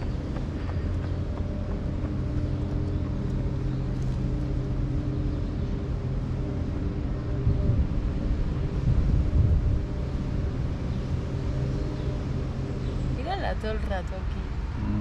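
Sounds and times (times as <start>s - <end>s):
low mechanical motor hum: 0.0s - 15.0s.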